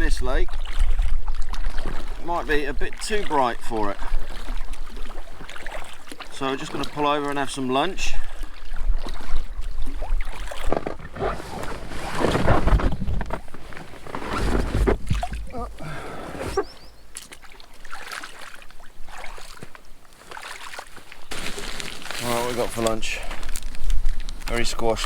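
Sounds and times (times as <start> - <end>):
paddle strokes: 0.0 - 25.0
water splashing and sloshing: 0.0 - 25.0.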